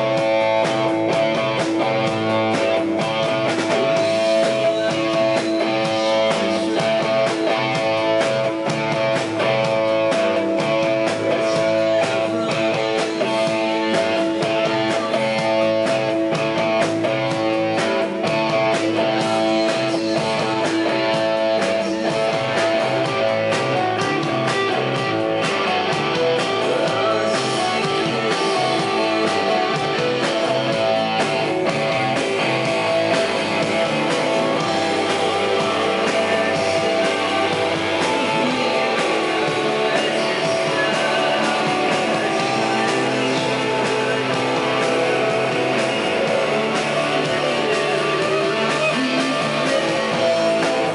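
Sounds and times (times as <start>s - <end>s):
drum kit: 0.0s - 50.9s
electric guitar: 0.0s - 50.9s.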